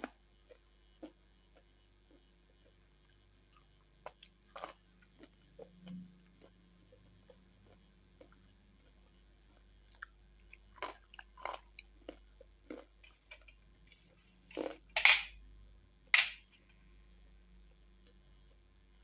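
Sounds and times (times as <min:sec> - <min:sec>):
person chewing crunchy pencils: 0:00.0 - 0:15.3.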